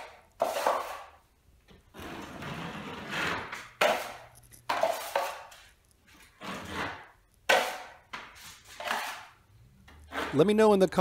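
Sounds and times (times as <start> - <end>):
taping knife scraping ceiling: 0.0 - 1.2, 1.9 - 10.6.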